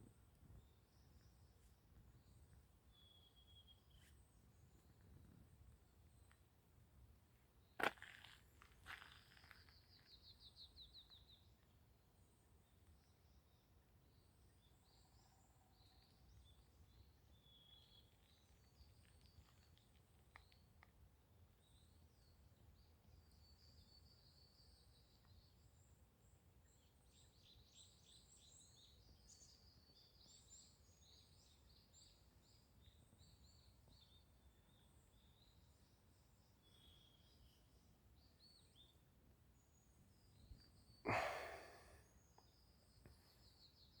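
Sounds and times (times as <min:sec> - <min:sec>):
songbird chirps: 0:00.0 - 0:44.0.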